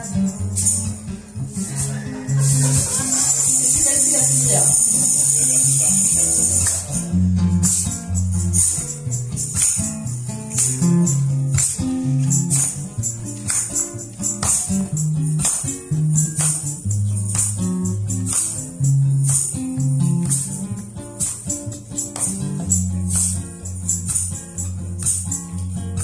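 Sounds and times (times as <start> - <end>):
bright strummed strokes: 0.0 - 26.0
picked low string notes: 0.0 - 26.0.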